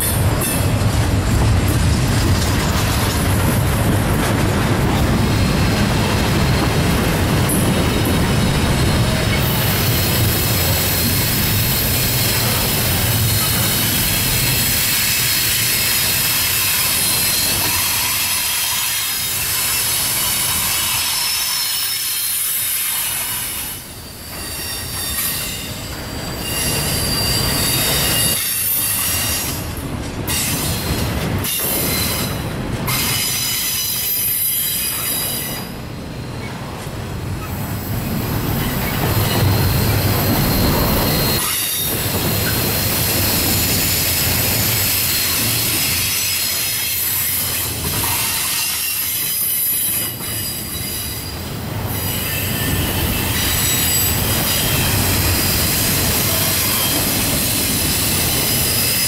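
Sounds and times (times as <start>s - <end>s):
wheels rolling on rail: 0.0s - 59.0s
train wheels squealing: 5.3s - 29.7s, 30.3s - 59.0s.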